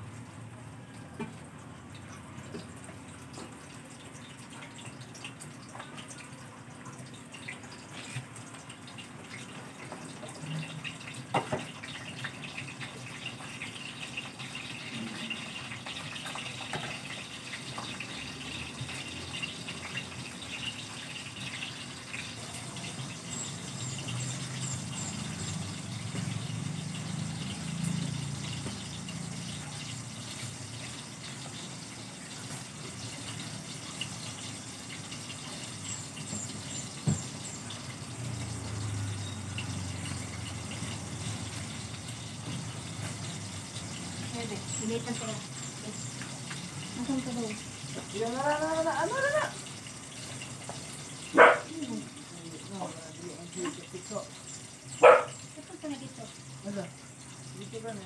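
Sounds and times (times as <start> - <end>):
water running from a hose: 0.0 - 58.0.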